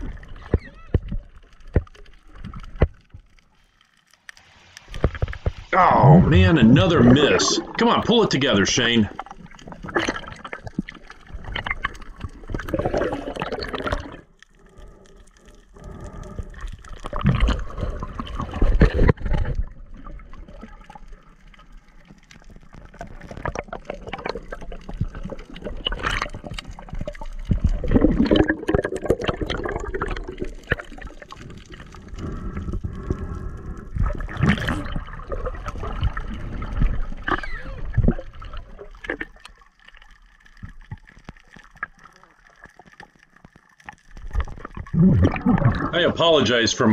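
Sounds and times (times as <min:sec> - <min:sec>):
water sloshing and bubbling: 0:00.0 - 0:46.9.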